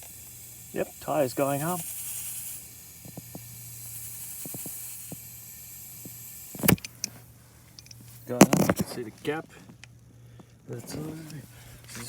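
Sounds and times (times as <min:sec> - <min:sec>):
air hissing into tyre: 0:00.0 - 0:10.4.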